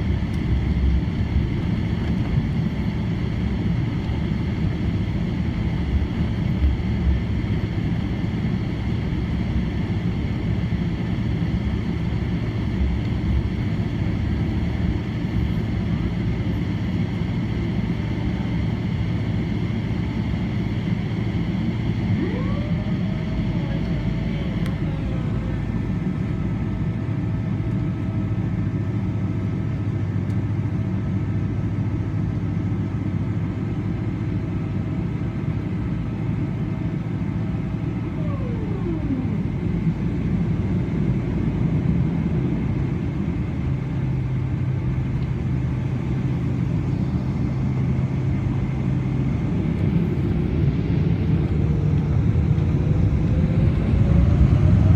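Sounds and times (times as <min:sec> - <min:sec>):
jet engine whine: 0:00.0 - 0:54.9
jet engines rumbling: 0:00.0 - 0:54.9.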